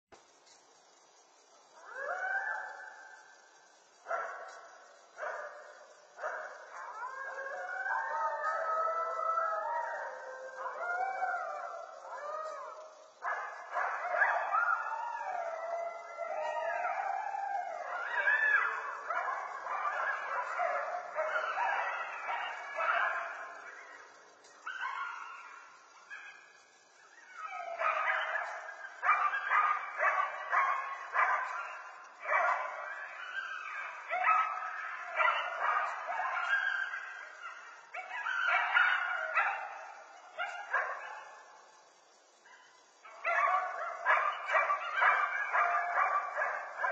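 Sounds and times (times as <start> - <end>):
coyotes yipping and howling: 0.3 - 46.9.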